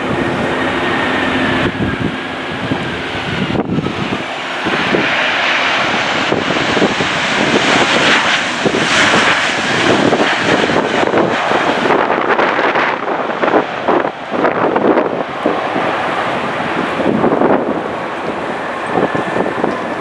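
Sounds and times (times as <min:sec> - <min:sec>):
jet airliner engines: 0:00.0 - 0:20.0
wind buffeting microphone: 0:00.0 - 0:20.0.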